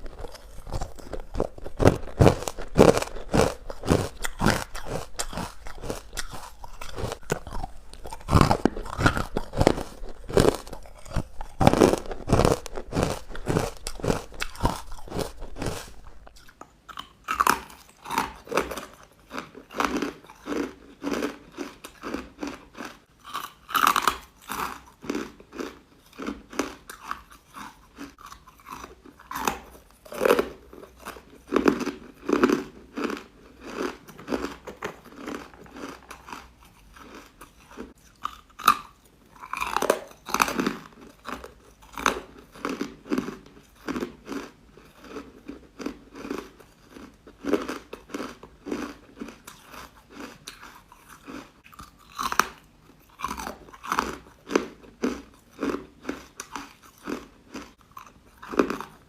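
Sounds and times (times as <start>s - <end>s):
person crunching ice: 0.0s - 52.6s, 53.2s - 59.0s.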